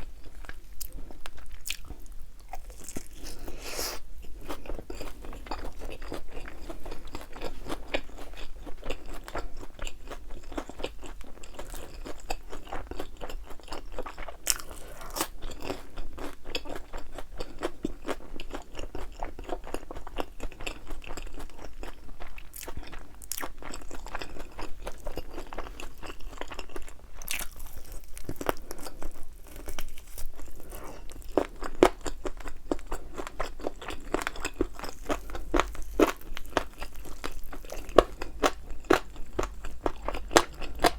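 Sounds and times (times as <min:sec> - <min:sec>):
crunching and chewing crispy food: 0:00.0 - 0:40.9.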